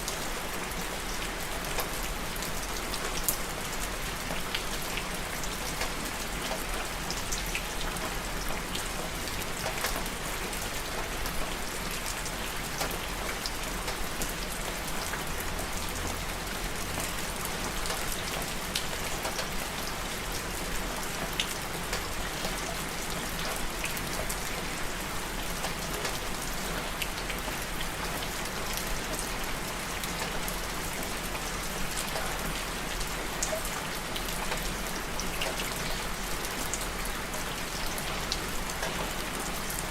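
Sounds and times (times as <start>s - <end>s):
steady rain falling: 0.0s - 39.9s
raindrops ticking on a surface: 0.1s - 39.9s.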